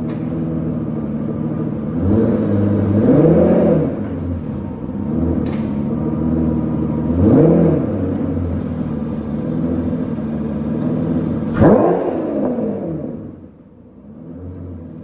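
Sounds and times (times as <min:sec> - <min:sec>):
car engine idling and blipping: 0:00.0 - 0:15.0.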